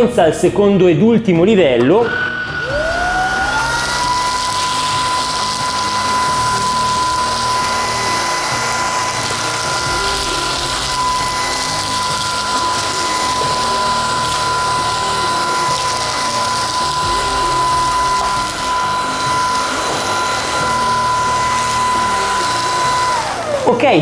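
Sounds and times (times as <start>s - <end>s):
vacuum motor whine: 1.8s - 24.0s.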